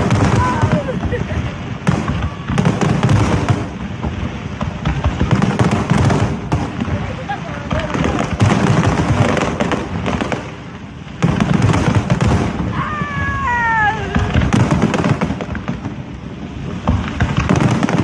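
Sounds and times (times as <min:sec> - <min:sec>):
fireworks booms and crackling: 0:00.0 - 0:18.0.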